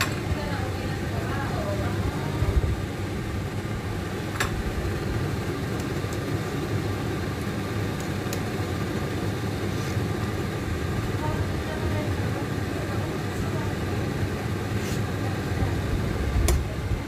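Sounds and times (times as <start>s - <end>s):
pot boiling: 0.0s - 17.0s.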